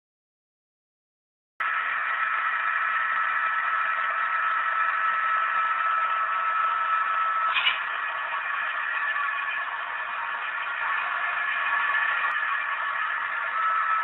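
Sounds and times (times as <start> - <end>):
hissy diesel engine sound effect: 1.6 - 14.0
steady high tone: 1.6 - 14.0.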